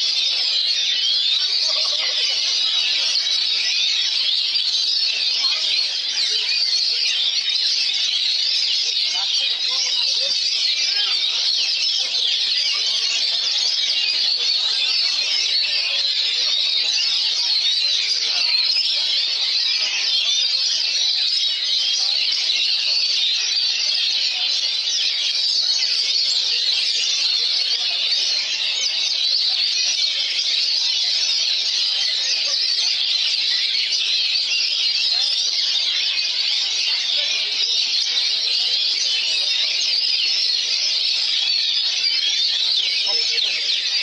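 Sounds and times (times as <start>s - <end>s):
chorus of birds singing: 0.0s - 44.0s.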